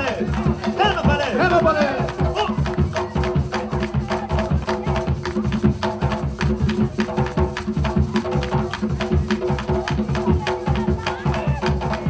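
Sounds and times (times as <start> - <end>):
driving drum and percussion rhythm: 0.0 - 12.0.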